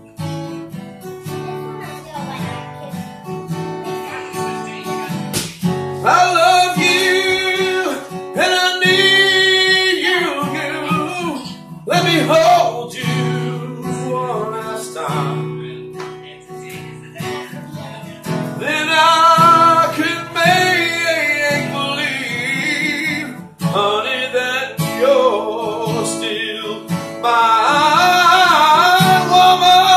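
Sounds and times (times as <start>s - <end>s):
acoustic guitar strumming: 0.0s - 29.9s
man singing: 3.9s - 29.9s.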